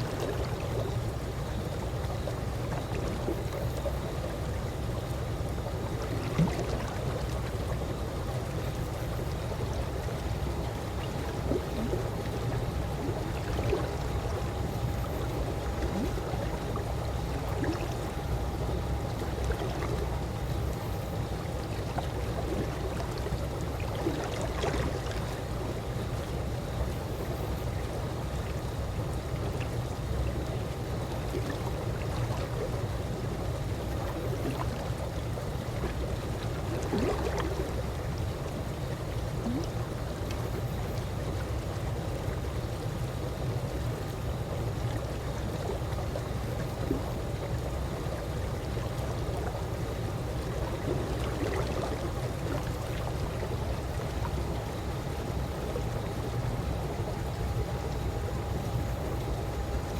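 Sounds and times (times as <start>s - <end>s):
pool water lapping: 0.0s - 59.9s
water gurgles and splashes: 0.0s - 59.9s.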